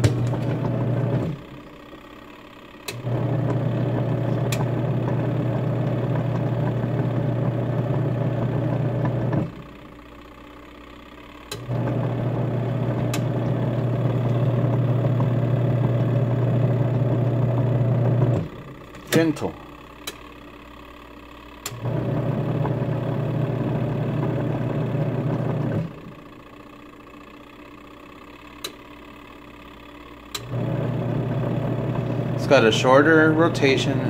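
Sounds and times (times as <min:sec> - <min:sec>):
washing machine motor humming: 0:00.0 - 0:34.0.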